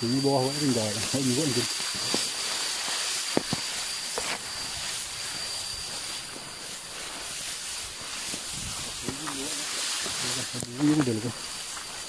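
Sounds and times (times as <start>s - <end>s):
insects droning: 0.0s - 12.0s
thin high whine: 0.0s - 12.0s.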